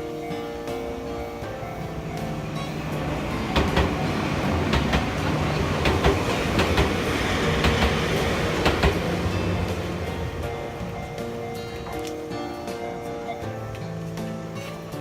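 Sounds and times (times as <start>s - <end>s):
train rumbling past: 0.0s - 14.6s
wheels clacking over rail joints: 0.6s - 12.9s.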